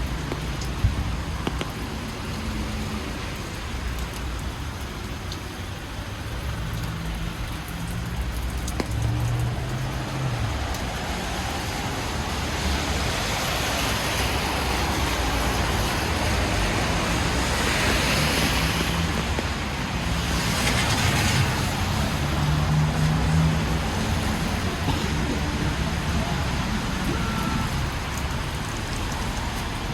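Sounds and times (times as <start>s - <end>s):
tyres hissing on wet road: 0.0s - 29.9s
cars passing: 5.8s - 29.9s.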